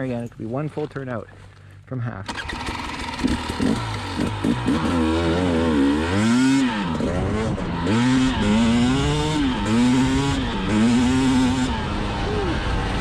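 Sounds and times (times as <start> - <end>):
motorcycle engine revving: 2.3 - 13.0.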